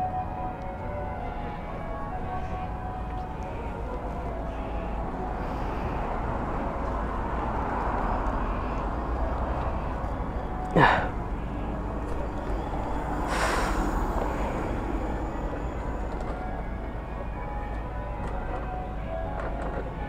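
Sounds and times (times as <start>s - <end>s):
city street traffic: 0.0s - 20.0s.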